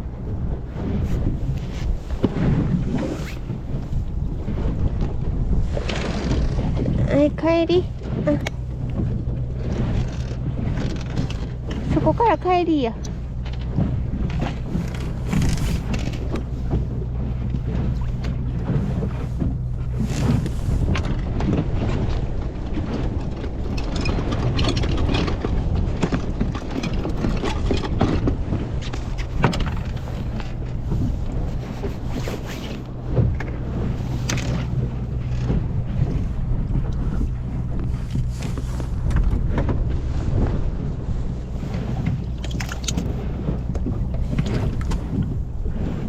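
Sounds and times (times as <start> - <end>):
light knocks and clicks from boat: 0.0 - 46.0
wind buffeting microphone: 0.0 - 46.0.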